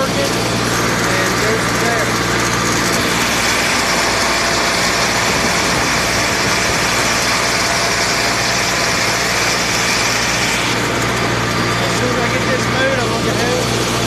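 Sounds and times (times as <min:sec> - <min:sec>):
hay mower cutting grass: 0:00.0 - 0:14.0
tractor engine running: 0:00.0 - 0:14.0.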